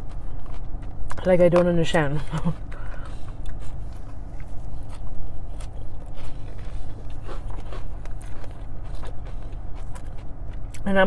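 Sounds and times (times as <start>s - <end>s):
biting and chewing food: 0.0s - 11.0s
steady low hum: 0.0s - 11.0s.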